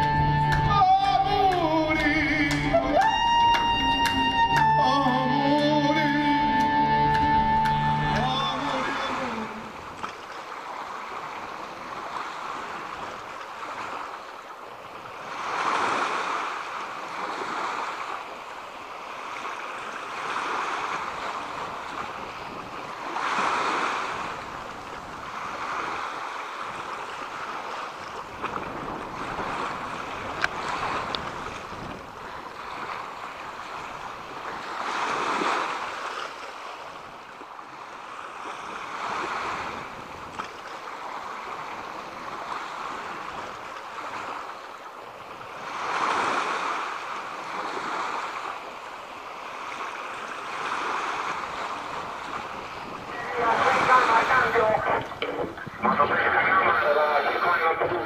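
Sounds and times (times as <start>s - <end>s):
small waves washing over sand: 0.0s - 4.7s, 7.2s - 58.0s.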